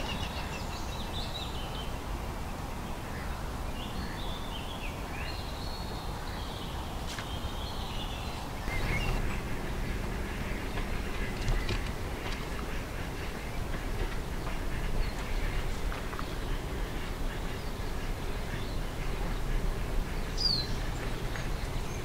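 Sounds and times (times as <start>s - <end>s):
low background rumble: 0.0s - 22.0s
small birds singing: 0.0s - 22.0s.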